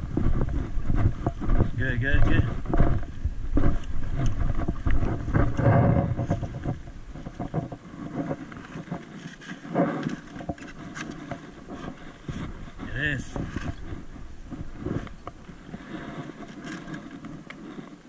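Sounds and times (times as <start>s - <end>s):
fishing gear knocking and rustling: 0.0s - 18.0s
wind buffeting microphone: 0.0s - 18.0s.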